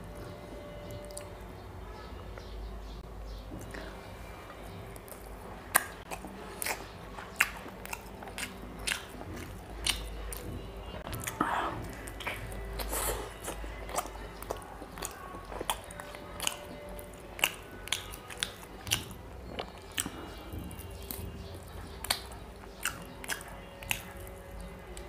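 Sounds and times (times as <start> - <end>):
chewing with wet mouth smacks: 0.8 - 1.4, 3.6 - 25.0.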